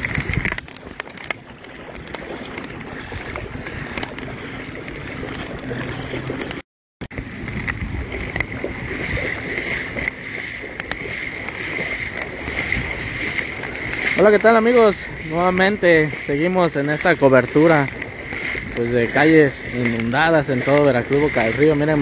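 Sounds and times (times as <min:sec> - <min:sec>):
floodwater washing: 0:00.0 - 0:22.0
rain falling on water: 0:00.0 - 0:22.0.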